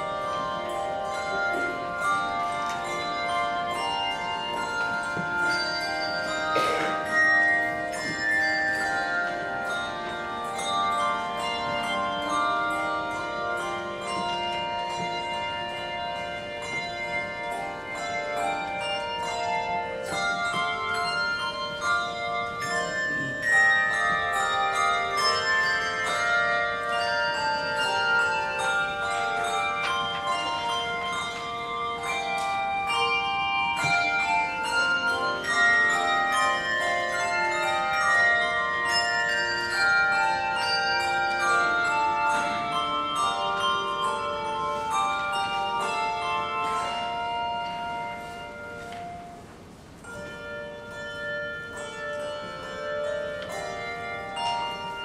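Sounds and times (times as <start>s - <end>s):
handbell choir ringing: 0.0s - 55.0s.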